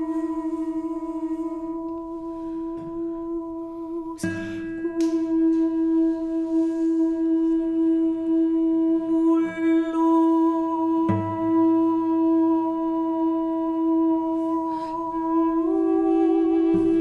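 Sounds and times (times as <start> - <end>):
recorder holding a long note: 0.0 - 17.0.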